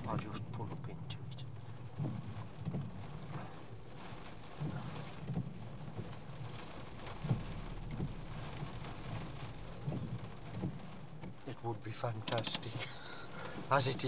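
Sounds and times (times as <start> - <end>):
low thumps: 0.0 - 11.8
rain on car roof: 0.0 - 14.0.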